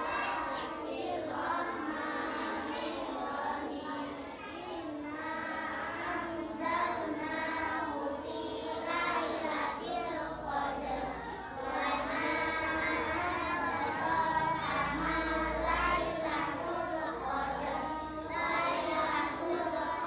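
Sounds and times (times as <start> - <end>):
children chanting prayer: 0.0 - 20.0.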